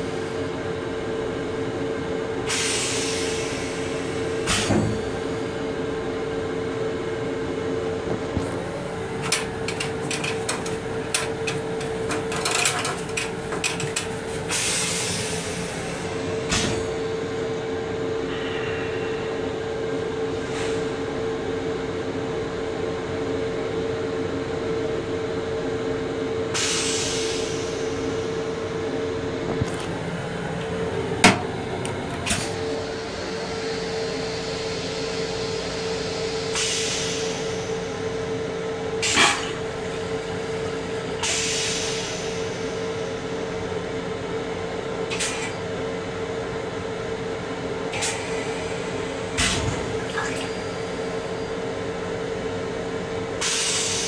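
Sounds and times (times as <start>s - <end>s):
electric railcar running hum: 0.0s - 54.0s.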